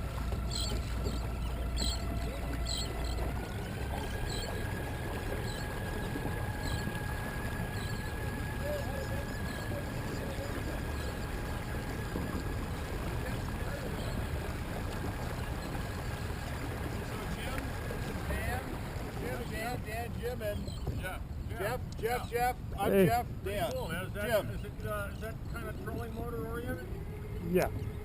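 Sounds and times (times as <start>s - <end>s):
electric outboard motor whine: 0.0s - 20.8s, 24.1s - 28.0s
rush of water and wind: 0.0s - 26.1s.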